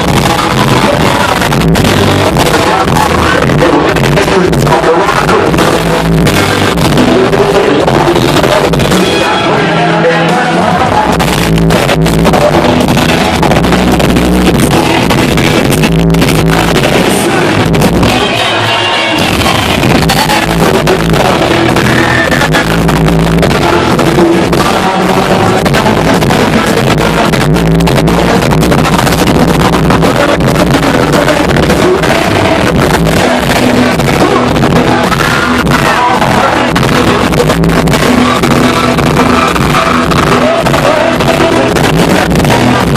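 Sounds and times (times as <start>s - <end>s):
man singing: 0.0s - 42.9s
live country band playing: 0.1s - 42.9s.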